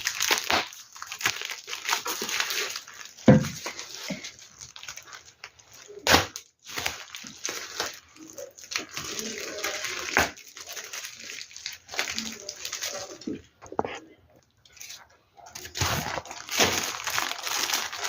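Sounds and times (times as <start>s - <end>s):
sharp plastic crackles: 0.0s - 13.8s, 14.4s - 18.0s
plastic packaging crinkling: 0.0s - 14.0s, 14.6s - 18.0s.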